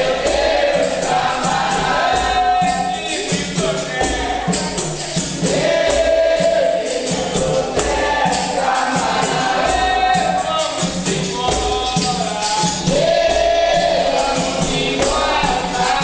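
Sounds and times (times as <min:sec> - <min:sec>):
drum and tambourine beat: 0:00.0 - 0:16.0
group singing in unison: 0:00.0 - 0:16.0.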